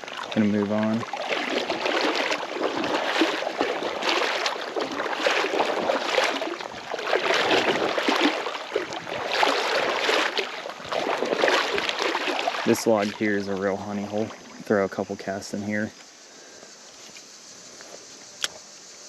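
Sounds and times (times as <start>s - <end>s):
water sloshing around wading legs: 0.0s - 15.6s
running creek current: 0.0s - 19.0s.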